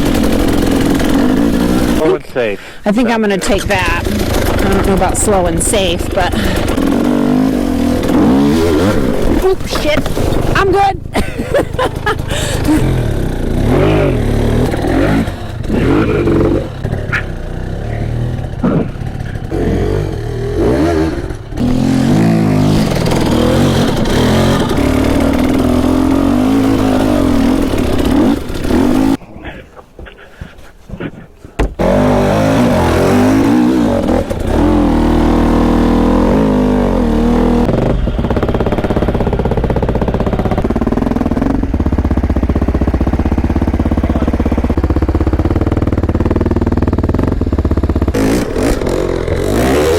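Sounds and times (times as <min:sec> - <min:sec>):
dirt bike engine revving: 0:00.0 - 0:29.2, 0:31.6 - 0:49.9.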